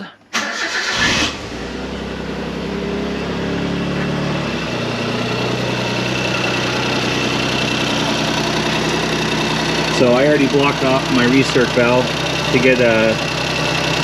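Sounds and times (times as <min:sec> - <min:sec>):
car engine idling: 0:00.4 - 0:14.0.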